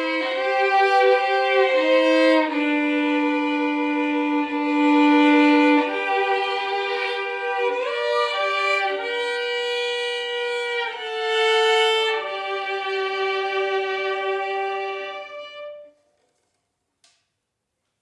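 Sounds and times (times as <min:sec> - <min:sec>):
solo violin hymn melody: 0:00.0 - 0:16.0.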